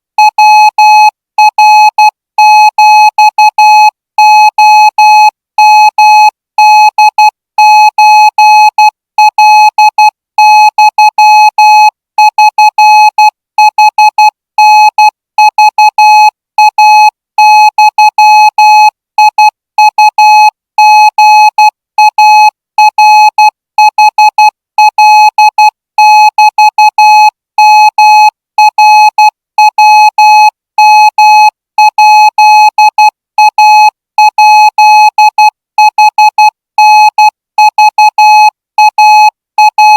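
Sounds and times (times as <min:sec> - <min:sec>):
buzzy morse code beeping: 0:00.4 - 0:19.5, 0:20.1 - 0:39.9.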